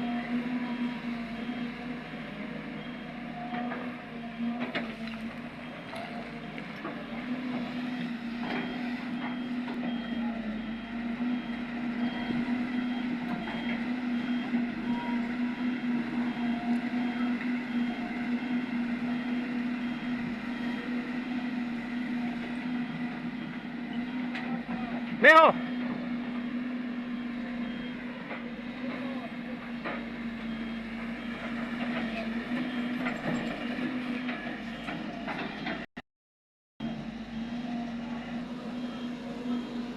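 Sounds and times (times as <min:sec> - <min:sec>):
diesel machinery running: 0:00.0 - 0:35.9, 0:36.8 - 0:39.9.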